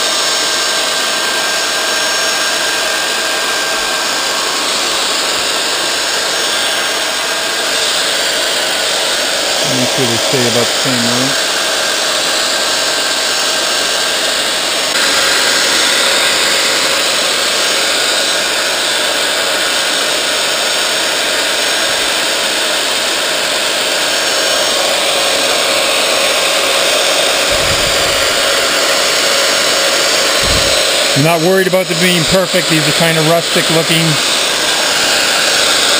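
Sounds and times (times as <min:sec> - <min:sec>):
belt sander sanding wood: 0:00.0 - 0:35.9.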